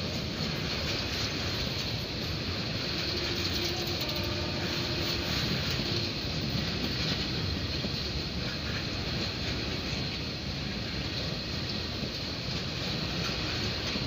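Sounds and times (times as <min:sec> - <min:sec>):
train wheels running over rails: 0:00.0 - 0:14.0.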